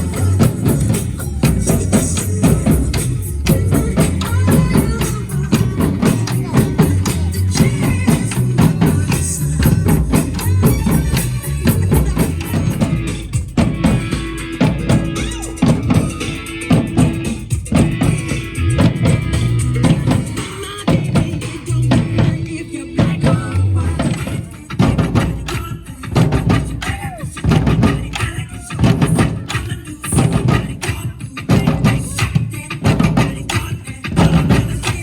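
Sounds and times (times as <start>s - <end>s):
accompanying music: 0.0s - 35.0s
drums playing fast rhythm: 0.0s - 35.0s.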